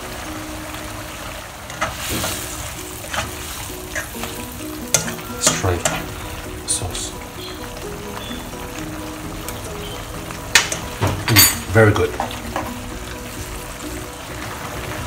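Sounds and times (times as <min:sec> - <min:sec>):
sauce bubbling and sizzling: 0:00.0 - 0:15.0.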